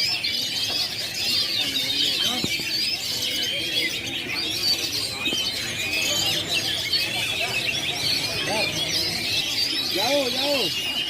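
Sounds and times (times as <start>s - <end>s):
songbirds chorus: 0.0s - 11.0s.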